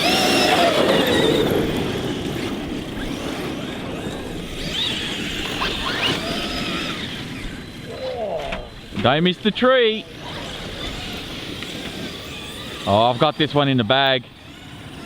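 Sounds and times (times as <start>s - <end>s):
electric motors whining: 0.0s - 15.0s
tyres churning ground: 0.0s - 15.0s.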